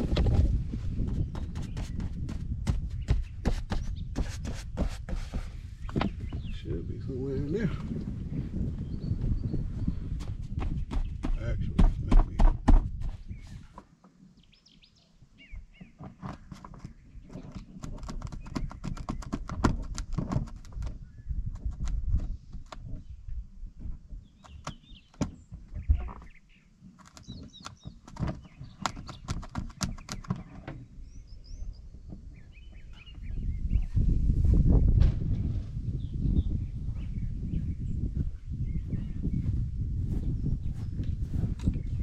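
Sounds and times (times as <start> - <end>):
birds chirping: 1.0 - 42.0.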